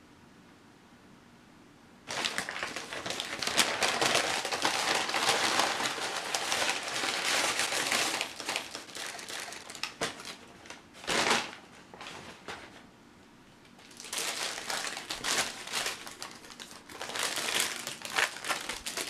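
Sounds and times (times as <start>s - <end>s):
paper wrapping pulled out: 2.1s - 12.8s, 13.8s - 19.0s
paper bag crinkling: 2.1s - 12.9s, 13.8s - 19.0s.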